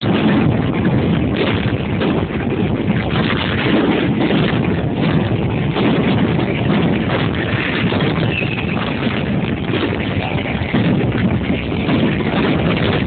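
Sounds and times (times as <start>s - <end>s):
rain: 0.0s - 13.0s
wind buffeting microphone: 0.0s - 13.0s.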